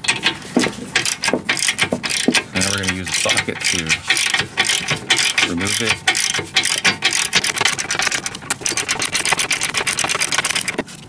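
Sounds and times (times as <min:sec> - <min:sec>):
ratchet wrench clicking rapidly: 0:00.0 - 0:10.8.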